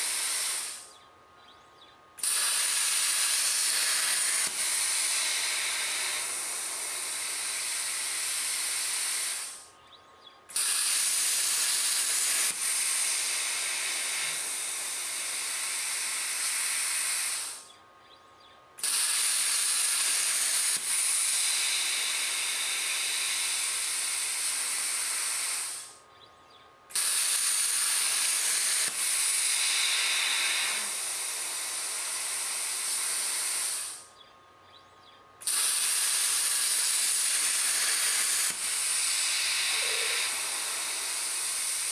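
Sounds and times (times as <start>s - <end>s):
plasma cutter torch hissing: 0.0s - 1.0s, 2.2s - 9.7s, 10.5s - 17.8s, 18.8s - 26.0s, 26.9s - 34.1s, 35.4s - 41.9s.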